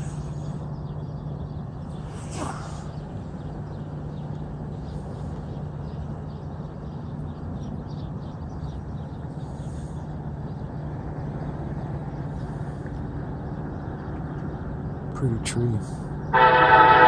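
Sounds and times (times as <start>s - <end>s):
distant freight train rumble: 0.0s - 17.0s.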